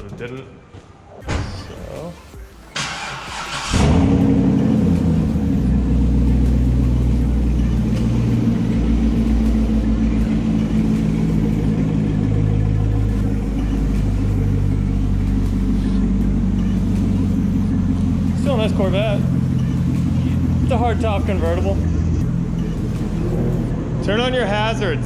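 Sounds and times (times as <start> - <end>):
car engine idling: 1.2 - 25.0.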